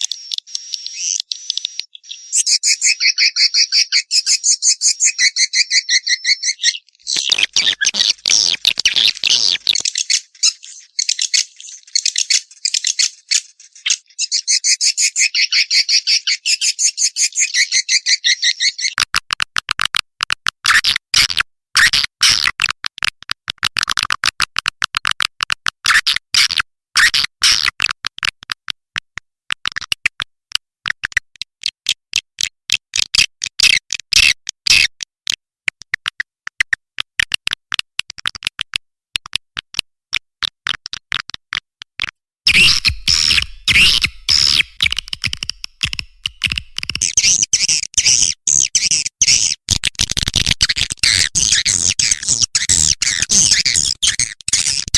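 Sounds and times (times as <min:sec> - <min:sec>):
rapid high bird chirps and clicks: 0:00.0 - 0:28.7, 0:29.5 - 0:54.9.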